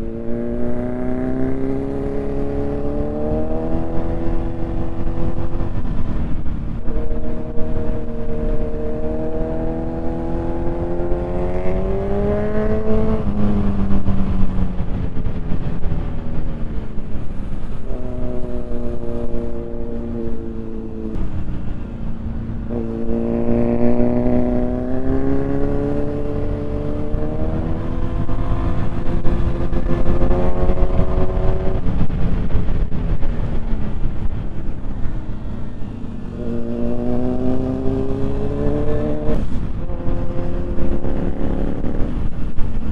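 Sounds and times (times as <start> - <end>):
motorcycle engine accelerating: 0.0 - 42.9
wind and road rumble: 0.0 - 42.9.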